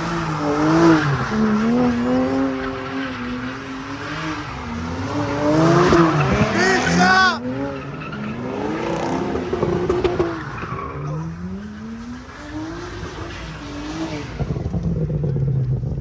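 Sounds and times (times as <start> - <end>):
tyres skidding and squealing: 0.0 - 15.4
car engine revving: 0.0 - 16.0.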